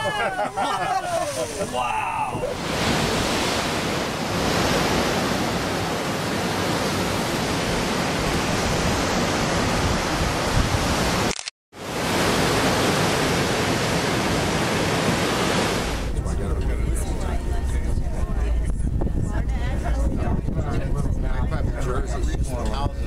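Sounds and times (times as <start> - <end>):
sea waves: 0.0 - 20.4
wind: 0.0 - 23.0.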